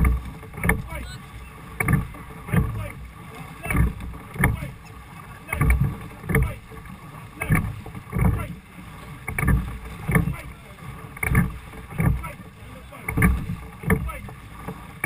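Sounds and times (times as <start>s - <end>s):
oar strokes beating: 0.0s - 15.0s
water rushing: 0.0s - 15.0s
wind: 0.0s - 15.0s.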